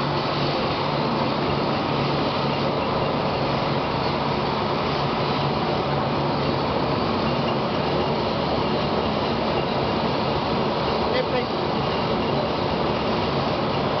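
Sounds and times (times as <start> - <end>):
lathe running hum: 0.0 - 14.0.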